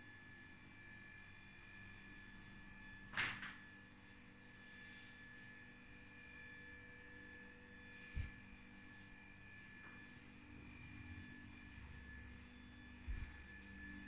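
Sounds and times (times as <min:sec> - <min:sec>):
electrical hum with high whine: 0:00.0 - 0:14.0.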